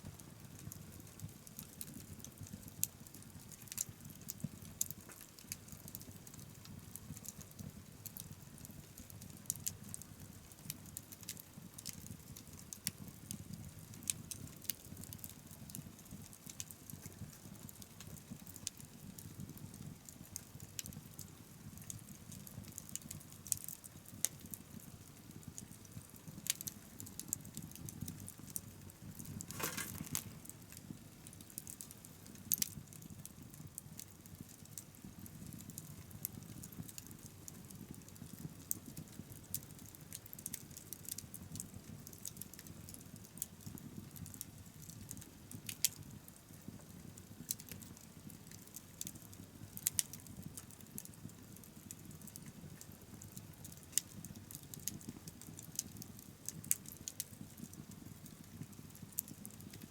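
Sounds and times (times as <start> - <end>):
bonfire crackling: 0.0 - 59.9
low rumble of flames: 0.0 - 59.9.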